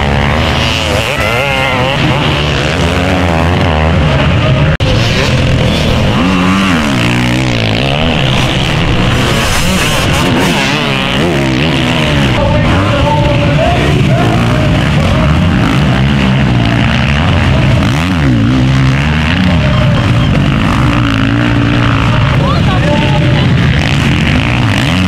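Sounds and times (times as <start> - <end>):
motocross motorcycles revving: 0.0 - 25.0.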